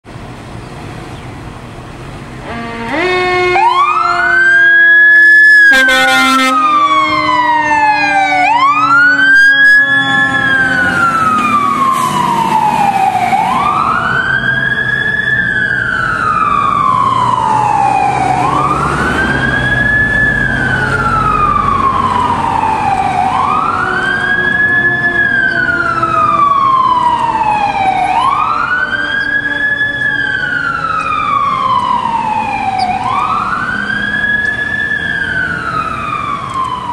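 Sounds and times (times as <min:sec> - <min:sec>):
fire truck siren wailing: 0:02.1 - 0:36.9.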